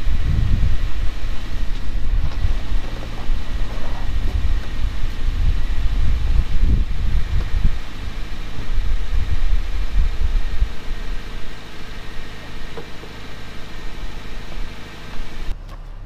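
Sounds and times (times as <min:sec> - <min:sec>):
wind rumbling on microphone: 0:00.0 - 0:15.5
car engine idling: 0:00.0 - 0:16.0.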